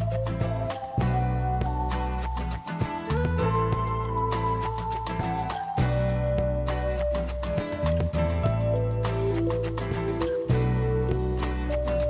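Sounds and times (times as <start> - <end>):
song with steady beat: 0.0 - 12.0.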